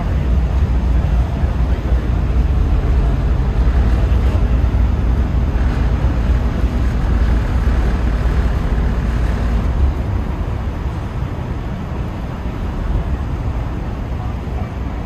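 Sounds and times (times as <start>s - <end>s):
ferry engine rumble: 0.0s - 15.0s
rushing water noise: 0.0s - 15.0s.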